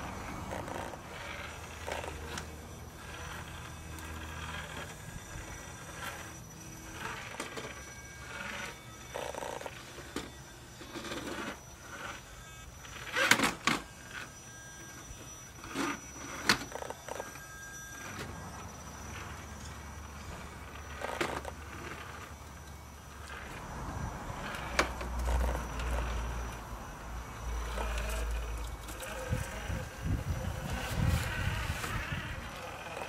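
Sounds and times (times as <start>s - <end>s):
tyres and chassis scraping rock: 0.0s - 12.2s, 15.6s - 33.0s
small electric motor whirring: 0.0s - 33.0s.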